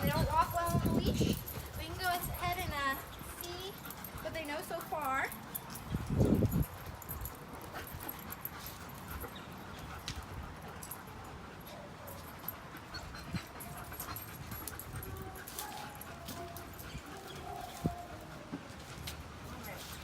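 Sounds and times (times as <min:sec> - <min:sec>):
light clicks and rustles: 0:00.1 - 0:20.0.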